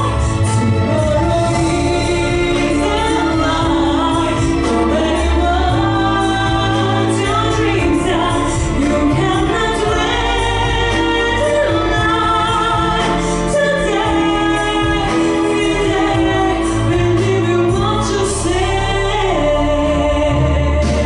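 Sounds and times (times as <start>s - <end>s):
instrumental backing track: 0.0s - 21.0s
woman singing a pop song: 0.0s - 21.0s.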